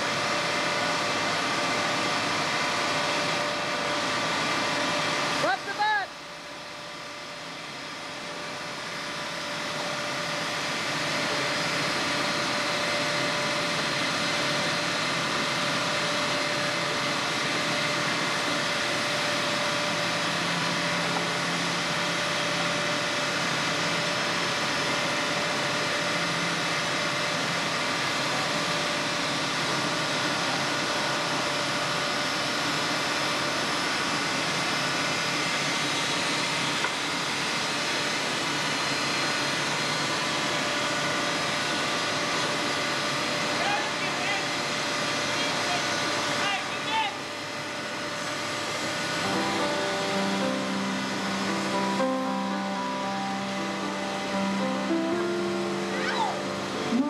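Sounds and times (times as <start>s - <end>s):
mill machinery droning: 0.0s - 57.0s
machine whining tones: 6.4s - 57.0s.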